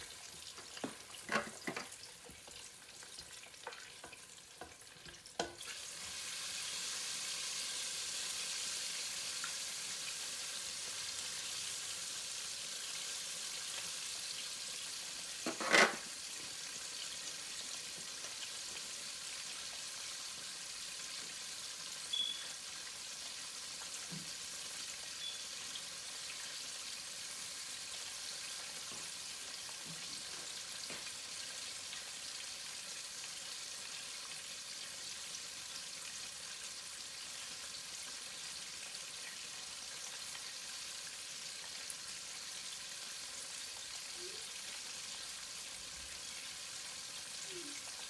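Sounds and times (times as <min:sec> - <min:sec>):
chicken wings frying in oil: 0:00.0 - 0:48.0.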